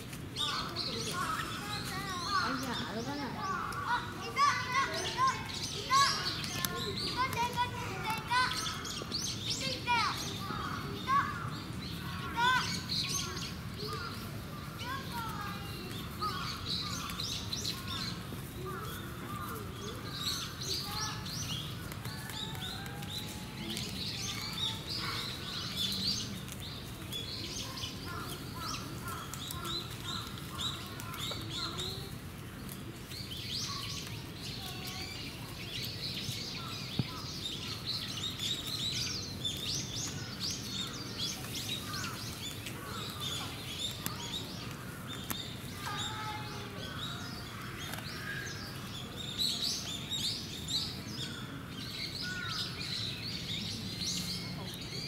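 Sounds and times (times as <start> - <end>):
low background murmur: 0.0 - 55.0
small birds chirping: 0.0 - 55.0.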